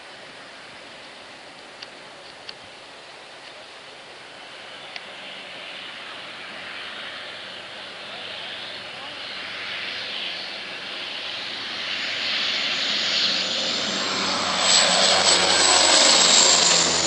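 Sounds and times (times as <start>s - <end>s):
aircraft engine approaching: 2.8s - 17.0s.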